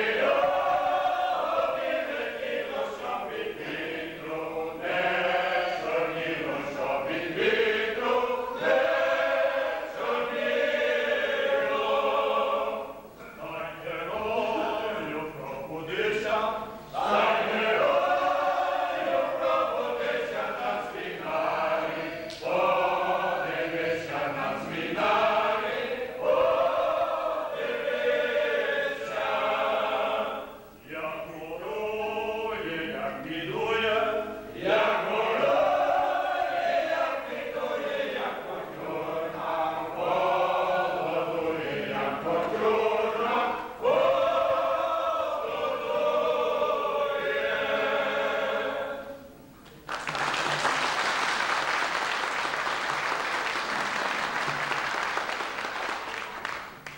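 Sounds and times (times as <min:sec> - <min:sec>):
mixed choir singing: 0:00.0 - 0:49.4.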